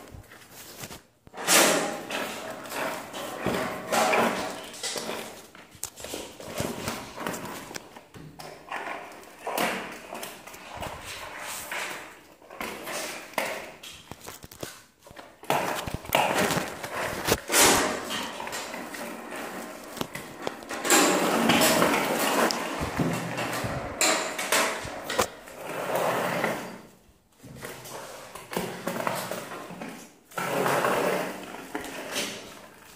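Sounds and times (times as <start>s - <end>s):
toy scraping on tile floor: 0.2s - 27.0s, 27.6s - 32.9s.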